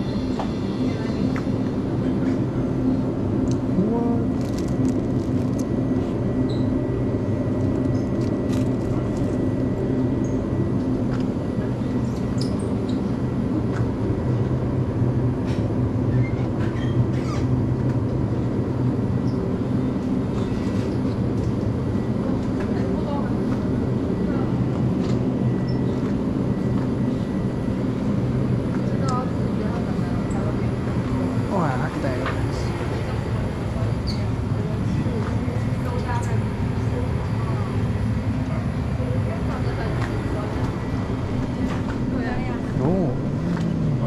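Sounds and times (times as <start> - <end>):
refrigerated cases humming: 0.0 - 44.0.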